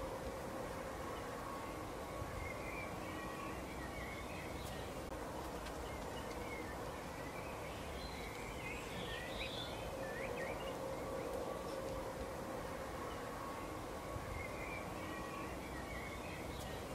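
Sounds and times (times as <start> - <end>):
faint hum: 0.0 - 16.9
outdoor background hiss: 0.0 - 16.9
songbirds chirping: 0.0 - 16.9.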